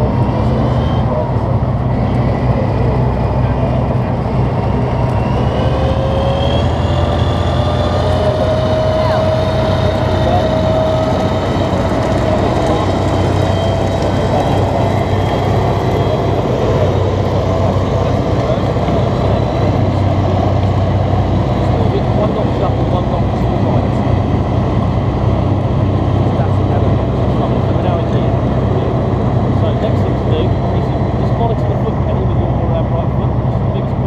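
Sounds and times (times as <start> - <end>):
armoured vehicle engine running: 0.0 - 34.0
engine whine: 0.0 - 34.0.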